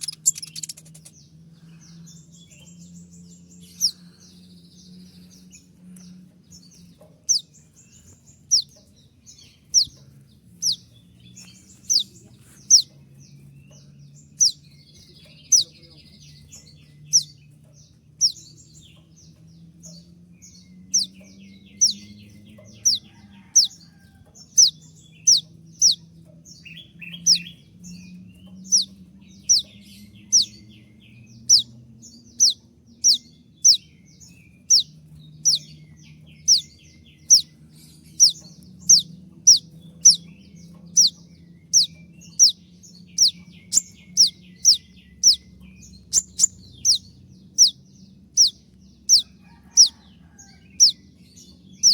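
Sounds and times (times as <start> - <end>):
faint low hum: 0.0 - 51.9.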